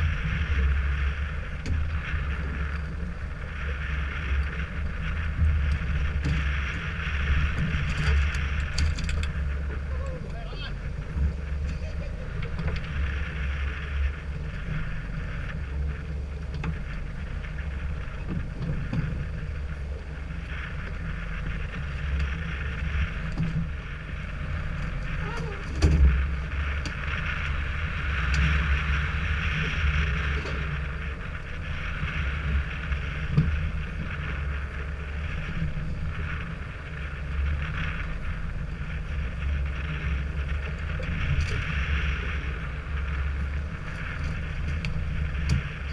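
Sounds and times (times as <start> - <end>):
boat engine rumble: 0.0 - 45.9
wind on microphone: 0.0 - 45.9.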